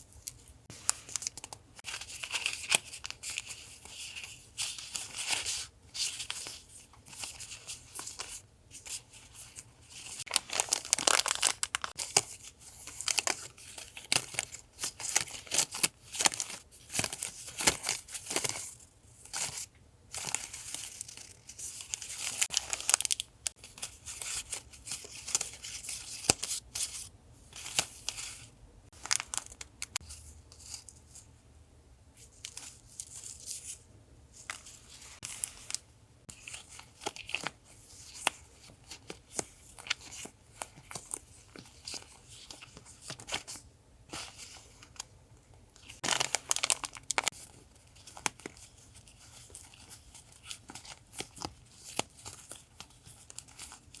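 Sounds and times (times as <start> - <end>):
sticker packets rustling and crinkling: 0.0 - 31.3, 34.4 - 54.0.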